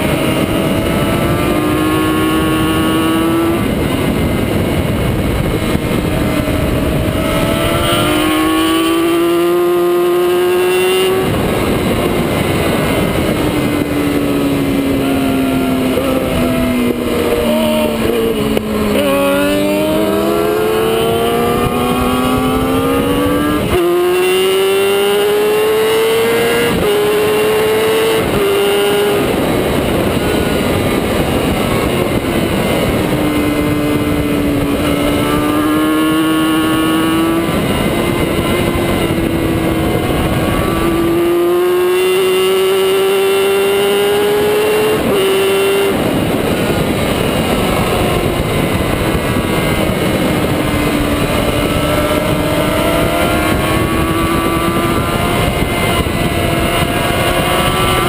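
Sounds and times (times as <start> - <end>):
motorcycle engine revving through gears: 0.0 - 58.0
wind rush on microphone: 0.0 - 58.0.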